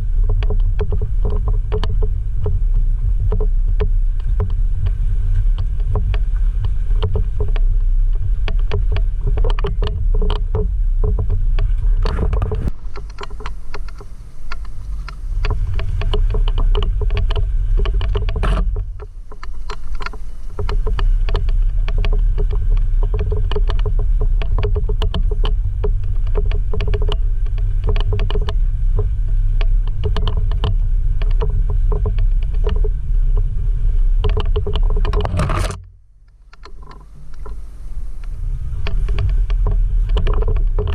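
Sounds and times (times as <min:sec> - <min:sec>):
knocks and rattles: 0:00.0 - 0:40.9
vehicle engine rumble: 0:00.0 - 0:40.9.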